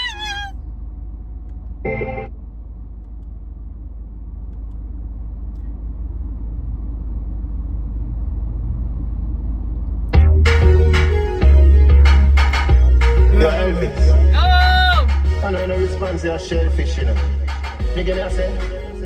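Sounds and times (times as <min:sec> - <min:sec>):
road and engine rumble: 0:00.0 - 0:19.0.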